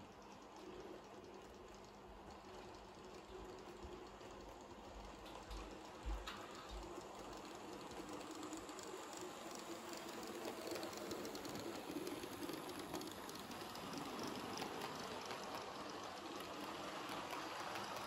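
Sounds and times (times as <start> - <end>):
model train rumbling on track: 0.0 - 18.0.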